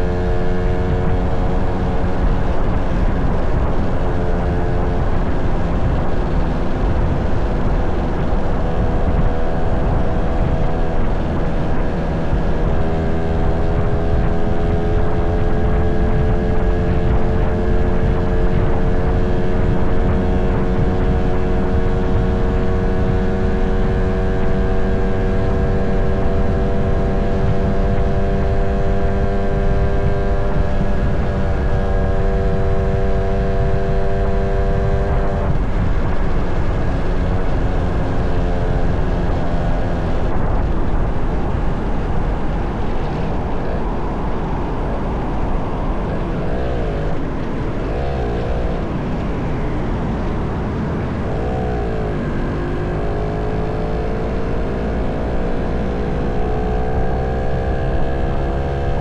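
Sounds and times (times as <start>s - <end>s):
motorcycle engine running: 0.0s - 59.0s
road rumble: 0.0s - 59.0s
wind: 0.0s - 59.0s.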